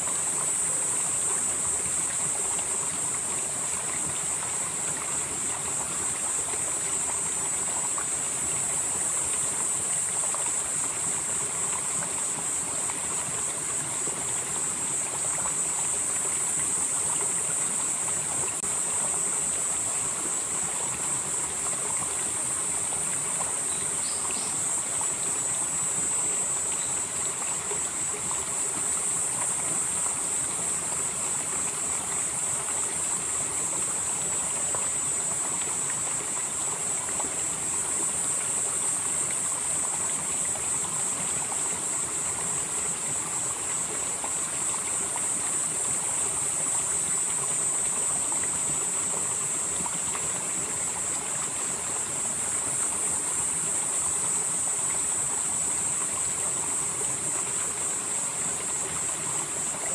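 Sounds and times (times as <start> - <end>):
insects droning: 0.0 - 59.9
stream flowing over rocks: 0.0 - 59.9.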